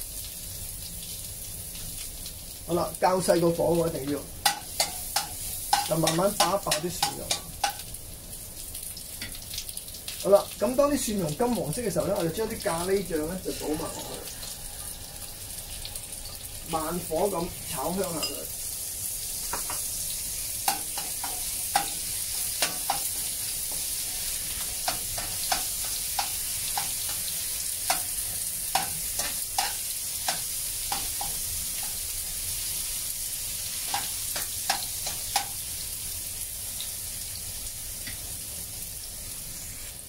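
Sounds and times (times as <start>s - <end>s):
paste sizzling in oil: 0.0s - 40.0s.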